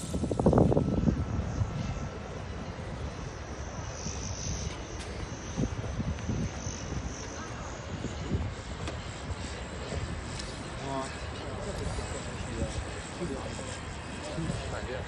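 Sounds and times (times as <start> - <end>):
model airplane motor droning: 0.0 - 15.0
outdoor background noise: 0.0 - 15.0.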